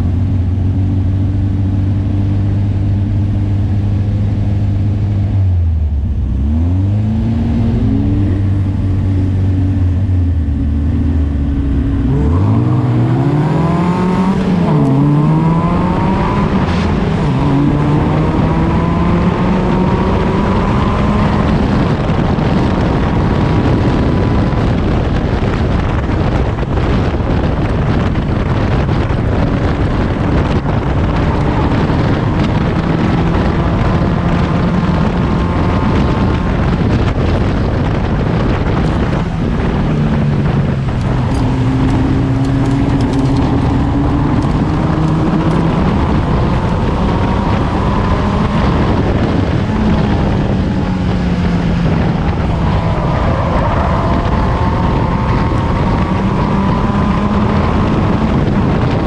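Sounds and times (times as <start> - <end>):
wind rush: 0.0 - 59.0
race car engine revving: 0.7 - 59.0.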